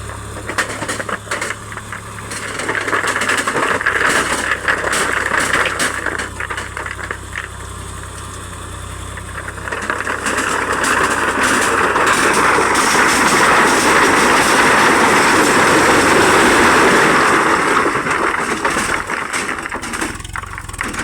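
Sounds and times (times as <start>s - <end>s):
diesel engine rattling: 0.0s - 21.0s.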